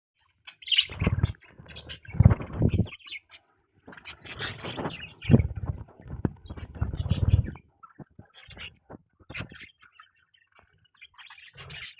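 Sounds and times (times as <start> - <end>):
budgerigars chirping and chattering: 0.2 - 11.9.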